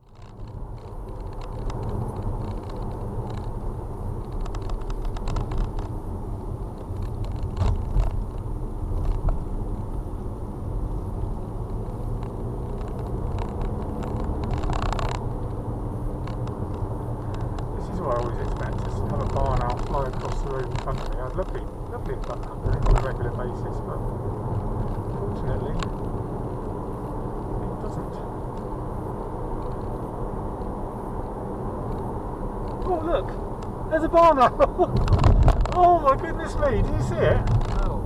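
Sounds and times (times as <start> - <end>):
rattles and clicks: 0.0 - 6.0, 6.7 - 9.6, 11.6 - 15.6, 16.2 - 28.8, 29.5 - 30.7, 31.8 - 38.0
car engine and road noise: 0.0 - 38.0.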